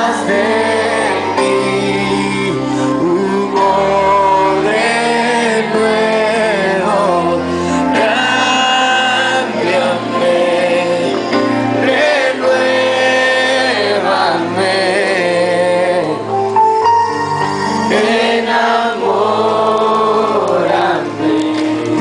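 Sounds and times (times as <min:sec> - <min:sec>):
group singing worship song: 0:00.0 - 0:16.2, 0:17.8 - 0:22.0.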